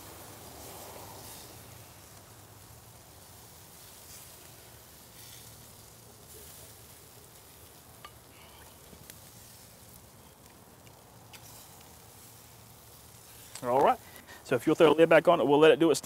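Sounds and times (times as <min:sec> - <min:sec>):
steaks sizzling on grill: 0:00.0 - 0:16.0.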